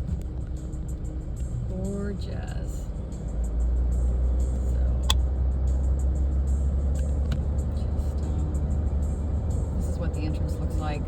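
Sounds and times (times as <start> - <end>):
van engine and road noise: 0.0 - 11.0.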